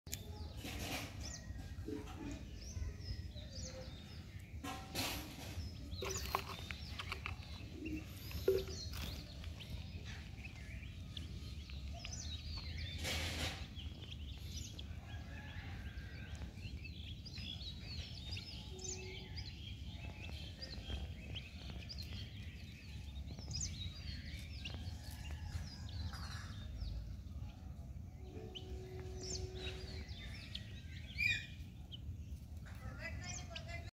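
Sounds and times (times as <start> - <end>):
small bird chirps: 0.1 - 33.9.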